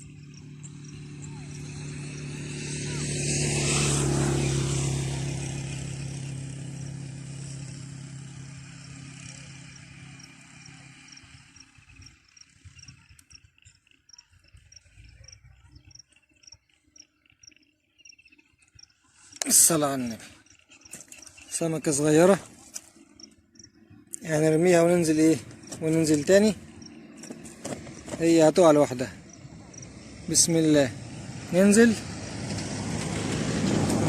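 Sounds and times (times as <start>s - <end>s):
vehicle engine passing by: 0.0s - 17.6s, 18.9s - 34.0s.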